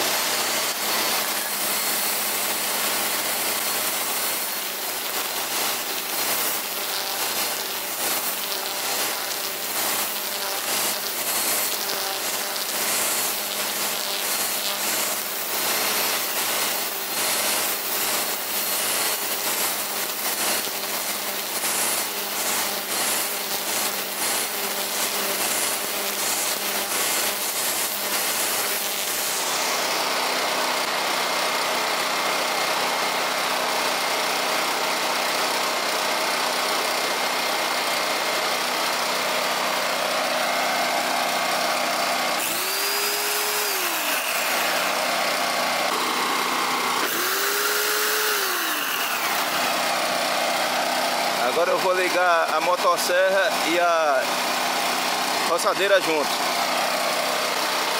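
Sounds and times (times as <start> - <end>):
generator running: 0.0 - 57.9
string trimmer cutting grass: 0.0 - 57.9.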